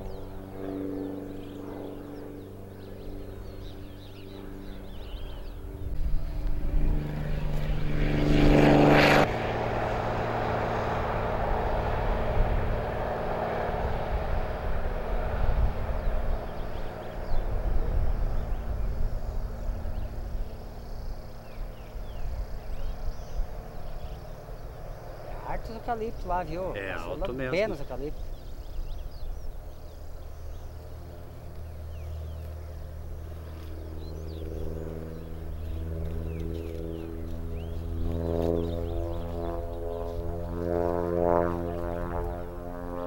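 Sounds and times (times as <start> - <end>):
airplane engine and propeller drone: 0.0 - 43.0.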